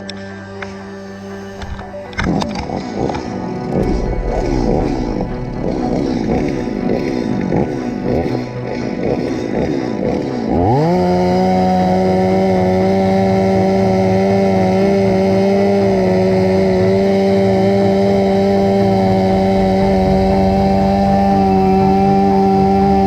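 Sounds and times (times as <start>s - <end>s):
chainsaw at full throttle: 1.6s - 23.0s.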